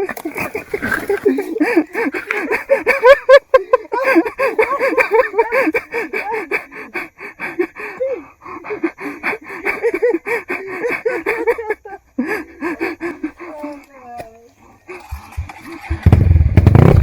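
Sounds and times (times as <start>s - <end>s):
hard panting: 0.0s - 16.0s.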